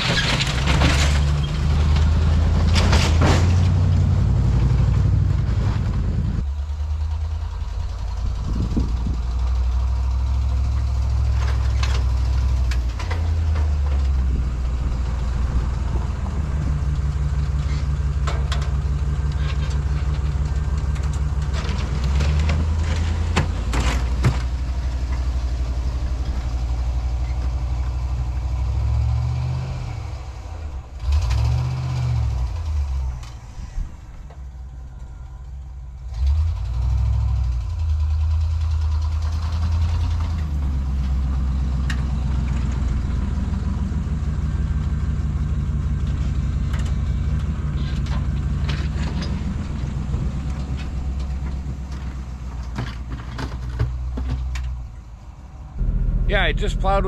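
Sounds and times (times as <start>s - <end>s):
truck engine revving: 0.0s - 34.2s, 36.0s - 57.0s.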